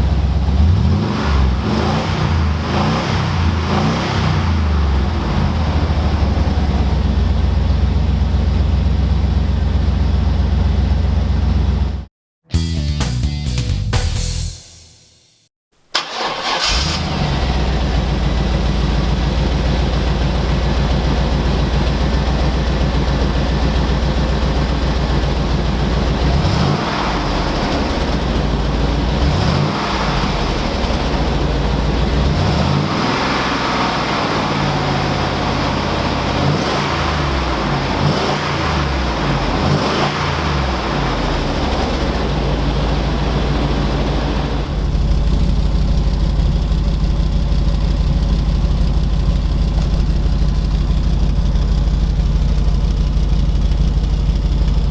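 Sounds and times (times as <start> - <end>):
car engine idling and revving: 0.0 - 12.1, 16.0 - 54.9.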